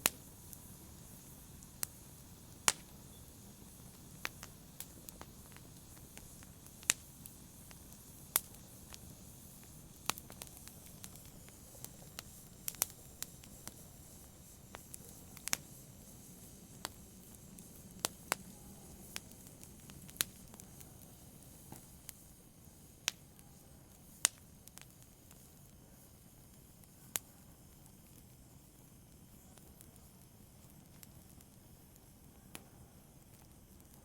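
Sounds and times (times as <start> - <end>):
low steady hiss: 0.0 - 34.0
wood fire crackling and popping: 0.0 - 34.0.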